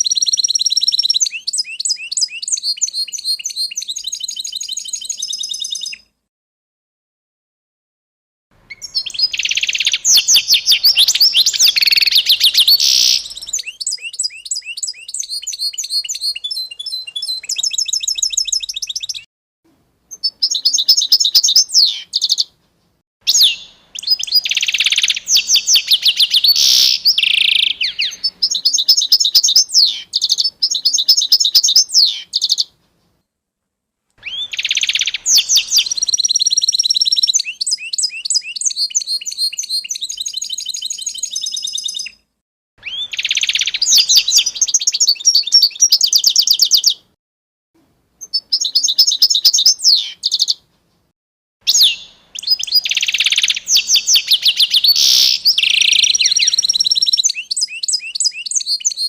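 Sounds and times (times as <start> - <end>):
songbird singing trills: 0.0 - 6.1, 8.6 - 19.3, 20.1 - 22.5, 23.3 - 32.7, 34.2 - 42.2, 42.8 - 47.1, 48.2 - 50.6, 51.7 - 59.0.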